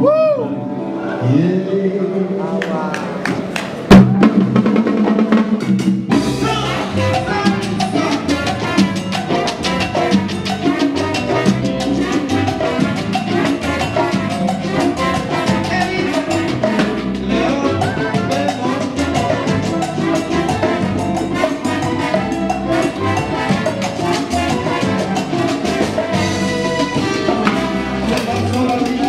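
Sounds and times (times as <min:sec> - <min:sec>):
salsa band playing: 0:00.0 - 0:29.0
congas and timbales rhythm: 0:02.7 - 0:29.0.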